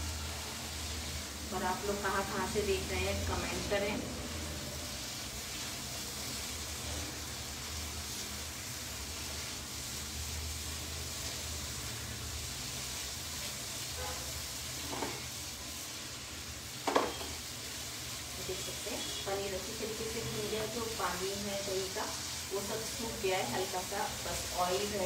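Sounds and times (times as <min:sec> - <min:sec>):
paneer sizzling in a frying pan: 0:00.0 - 0:25.0.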